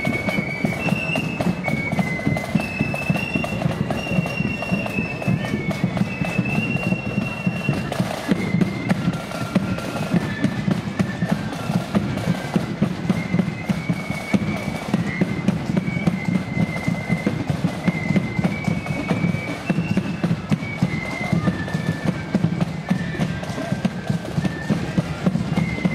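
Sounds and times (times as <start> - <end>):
high flute melody: 0.0 - 25.9
snare drumming: 0.0 - 25.9.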